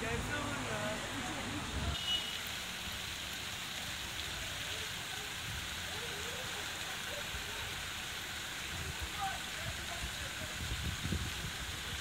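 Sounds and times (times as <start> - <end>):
street ambience hiss: 0.0 - 12.0.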